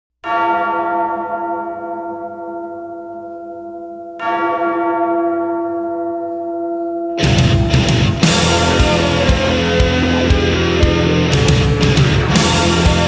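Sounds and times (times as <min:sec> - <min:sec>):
bell tolling: 0:00.2 - 0:13.0.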